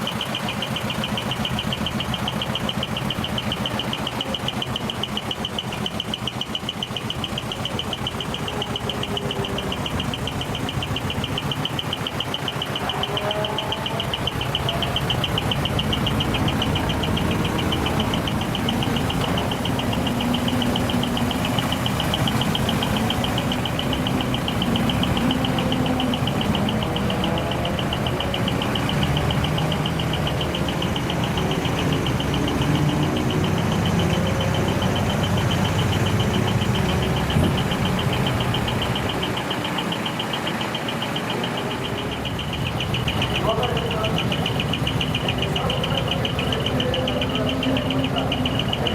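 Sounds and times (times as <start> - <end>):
heavy truck engine running: 0.0 - 48.9.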